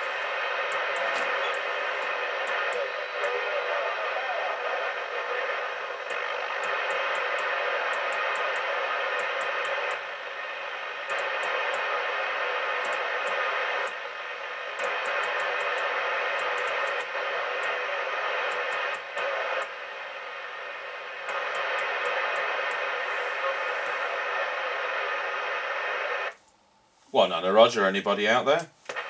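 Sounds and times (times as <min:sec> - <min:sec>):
radio receiver hiss: 0:00.0 - 0:29.0.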